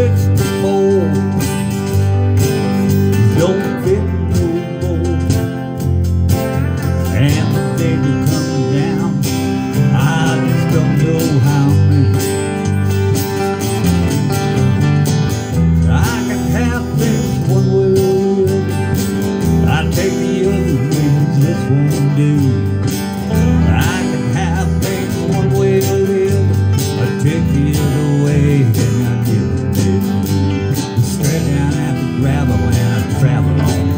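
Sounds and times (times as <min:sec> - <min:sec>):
acoustic guitar country instrumental: 0:00.0 - 0:33.9.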